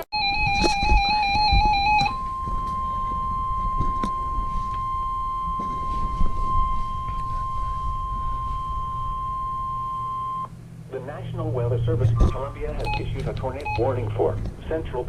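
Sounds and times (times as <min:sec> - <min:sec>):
low rumbling radio noise: 0:00.0 - 0:15.0
steady warning alarm tone: 0:00.0 - 0:15.0
warbling data tones: 0:00.0 - 0:15.0.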